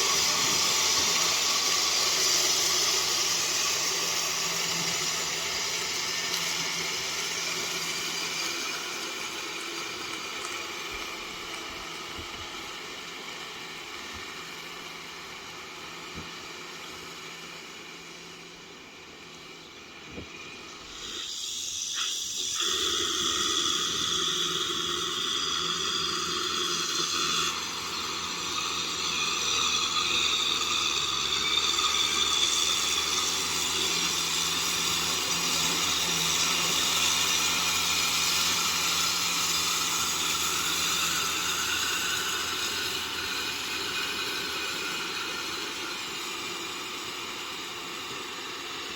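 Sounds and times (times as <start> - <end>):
tractor with rotavator running: 0.0 - 21.0, 22.7 - 48.9.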